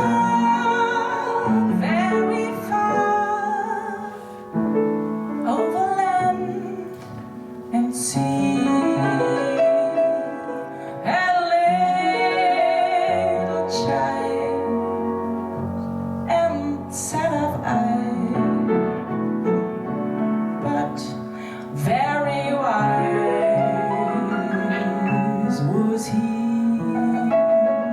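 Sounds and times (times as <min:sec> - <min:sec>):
woman singing a slow ballad: 0:00.0 - 0:15.2, 0:16.2 - 0:18.9, 0:20.6 - 0:27.8
piano: 0:00.0 - 0:27.9.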